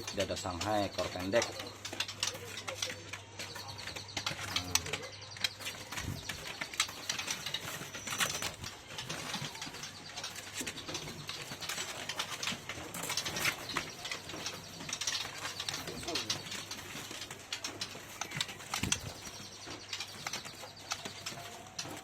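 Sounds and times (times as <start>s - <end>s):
bird clicks and chirps: 0.0s - 22.0s.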